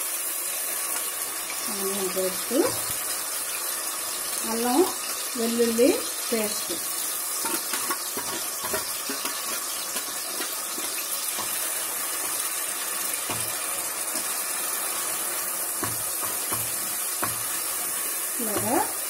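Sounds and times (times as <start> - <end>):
paste sizzling in hot oil: 0.0 - 19.0.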